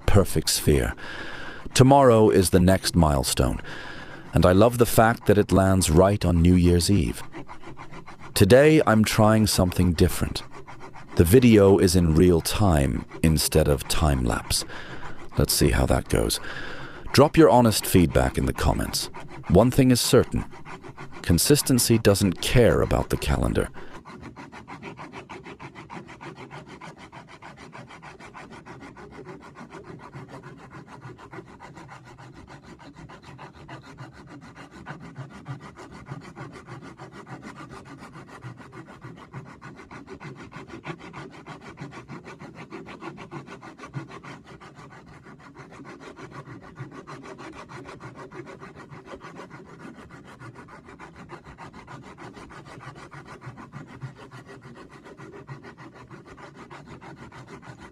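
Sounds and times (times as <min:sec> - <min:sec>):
sandpaper rubbing on wood: 0:00.0 - 0:57.9.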